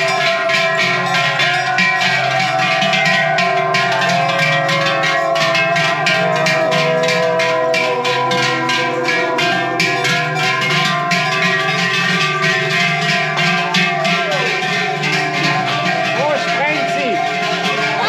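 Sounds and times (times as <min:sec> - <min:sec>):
cowbells clanging: 0:00.0 - 0:18.0.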